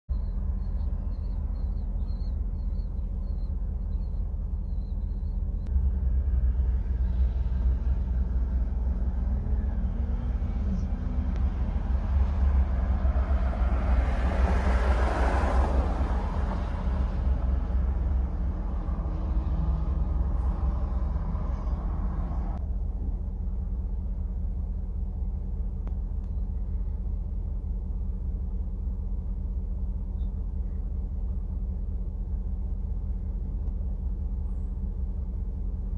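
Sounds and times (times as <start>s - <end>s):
vehicle engine idling: 0.1s - 35.9s.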